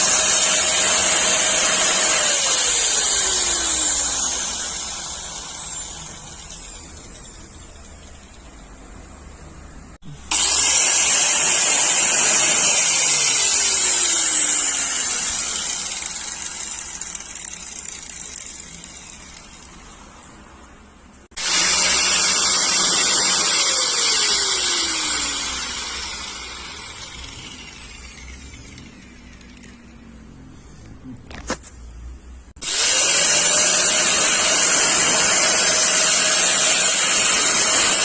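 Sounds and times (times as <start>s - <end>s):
drill grinder hissing grind: 0.0s - 8.5s, 10.0s - 20.0s, 21.4s - 30.0s, 32.6s - 38.0s
tool winding down whine: 0.0s - 9.1s, 10.0s - 20.0s, 21.4s - 30.9s, 32.6s - 38.0s.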